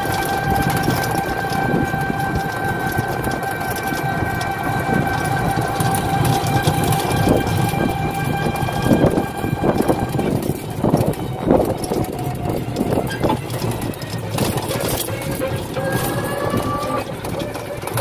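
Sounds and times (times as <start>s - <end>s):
vehicle body and road rattle: 0.0s - 18.0s.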